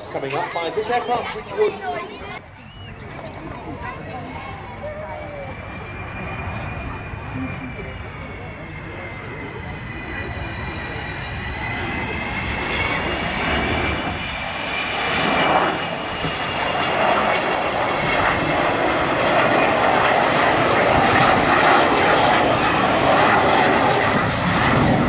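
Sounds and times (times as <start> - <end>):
jet aircraft rushing roar: 0.0 - 25.0
jet engine whine: 0.0 - 25.0.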